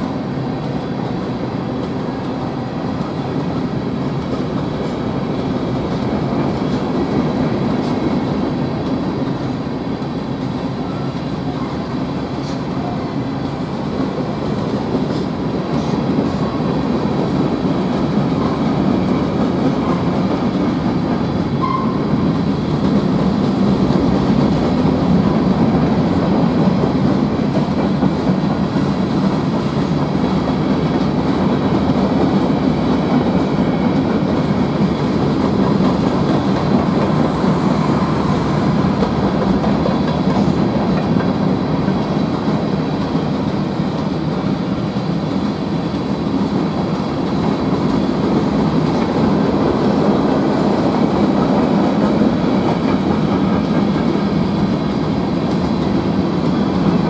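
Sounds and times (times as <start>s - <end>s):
steel train wheels rumbling on rails: 0.0s - 57.0s.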